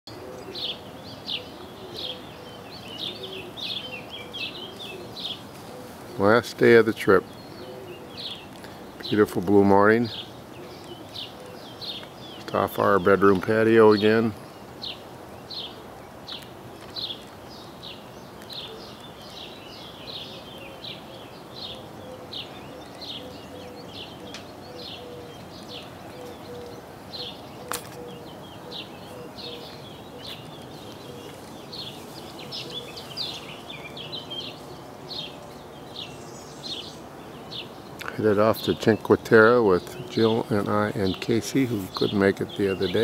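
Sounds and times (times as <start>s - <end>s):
birds chirping: 0.1s - 43.0s
distant traffic hum: 0.1s - 43.0s.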